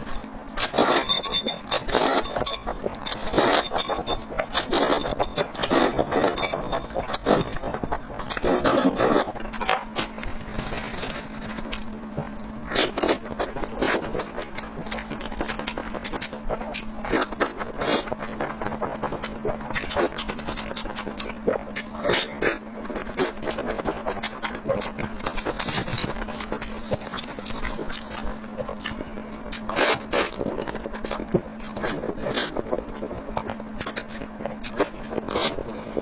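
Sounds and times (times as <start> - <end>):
chewing and mouth noises: 0.0 - 36.0
steady low hum: 0.0 - 36.0.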